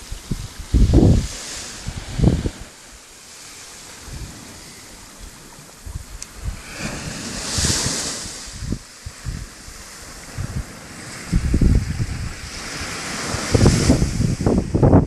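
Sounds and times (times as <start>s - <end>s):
small waves washing on sand: 0.0s - 15.0s
wind buffeting microphone: 0.0s - 15.0s.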